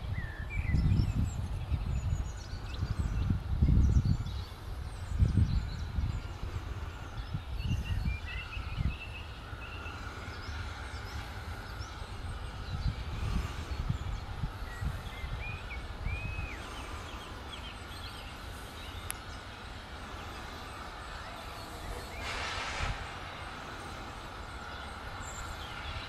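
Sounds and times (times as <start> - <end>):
low uneven rumble: 0.0 - 26.0
small birds chirping and singing: 0.0 - 26.0.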